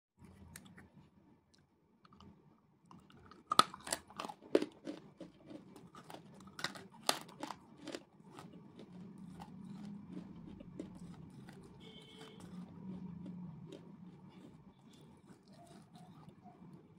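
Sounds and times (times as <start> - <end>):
chewing brittle crunches: 0.2 - 0.9, 2.1 - 16.9.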